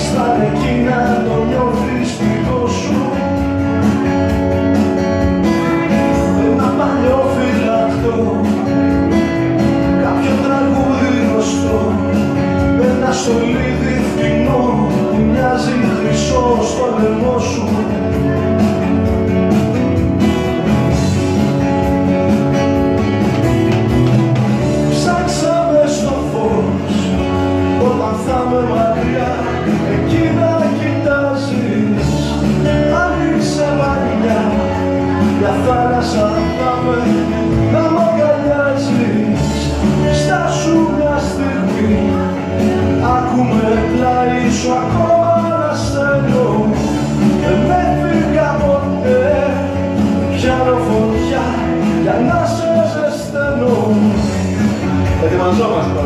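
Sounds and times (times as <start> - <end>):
acoustic guitar strummed: 0.0 - 56.0
lead melody line: 0.0 - 56.0.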